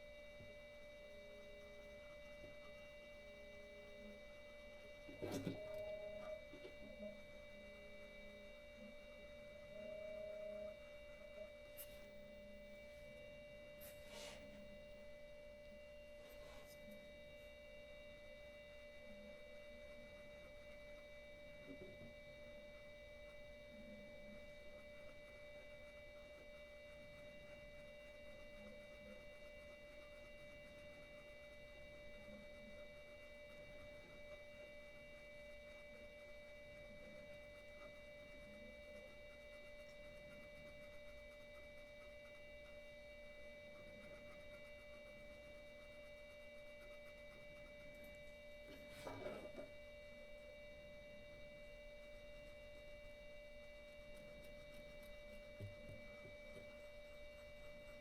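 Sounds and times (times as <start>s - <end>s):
faint high-pitched electrical whine: 0.0s - 58.0s.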